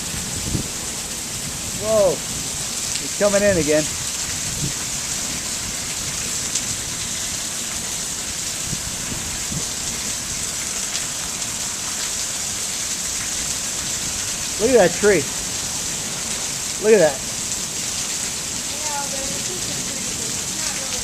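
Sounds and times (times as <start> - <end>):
heavy rain on a patio: 0.0 - 21.0.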